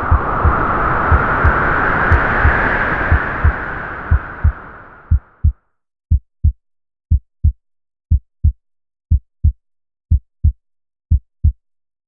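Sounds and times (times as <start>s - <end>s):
heartbeat thumps: 0.0s - 11.6s.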